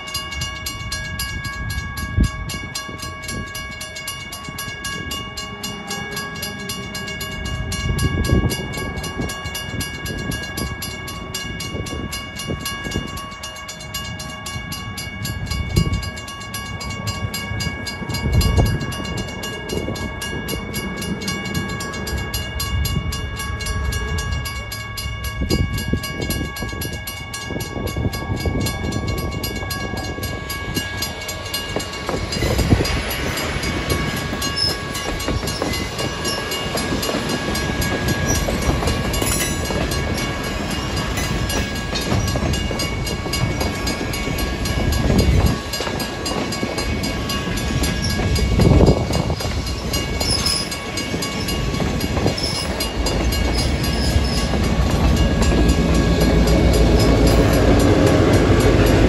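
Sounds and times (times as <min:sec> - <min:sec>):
crossing warning bell ringing: 0:00.0 - 0:59.0
train wheels rumbling and clacking: 0:00.0 - 0:59.0
locomotive engine rumble: 0:00.1 - 0:59.0.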